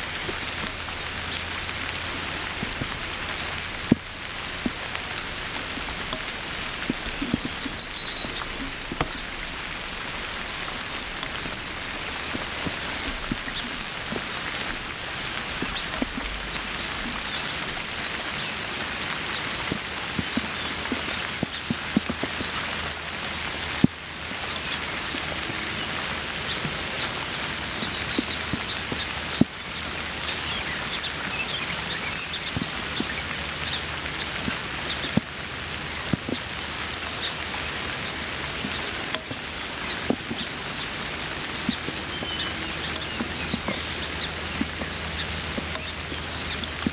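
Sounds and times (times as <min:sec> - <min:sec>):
rain falling: 0:00.0 - 0:46.9
raindrops ticking on surfaces: 0:00.0 - 0:46.9.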